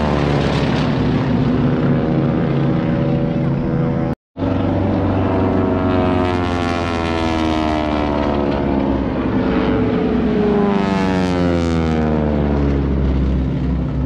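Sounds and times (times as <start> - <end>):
propeller aircraft engine drone: 0.0 - 14.0
second aircraft drone: 0.0 - 14.0.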